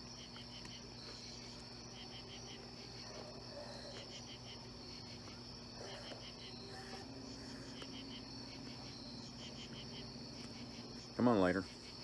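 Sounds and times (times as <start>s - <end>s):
crickets chirping: 0.0s - 12.0s
high-pitched insect trill: 0.0s - 12.0s.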